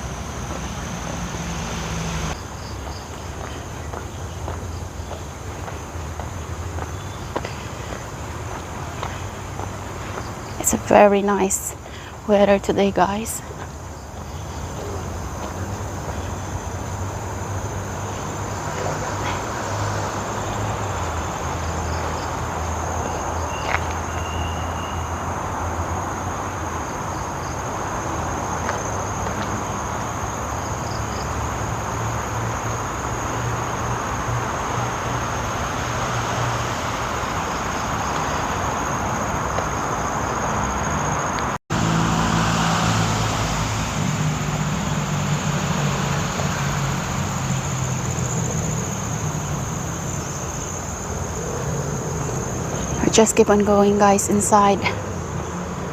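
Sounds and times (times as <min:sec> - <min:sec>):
insects droning: 0:00.0 - 0:55.9
passing vehicles rumble: 0:00.0 - 0:55.9.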